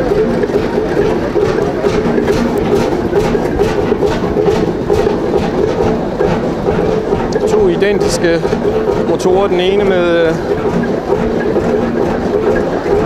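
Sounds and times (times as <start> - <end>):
ship's engine idling: 0.0 - 13.0.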